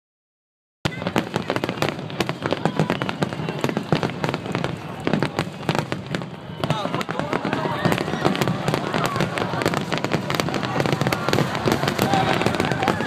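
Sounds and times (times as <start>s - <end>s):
fireworks popping and crackling: 0.9s - 13.0s.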